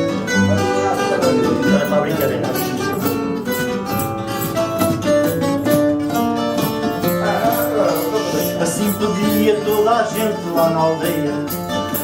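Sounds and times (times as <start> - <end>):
plucked guitars playing: 0.0 - 12.0.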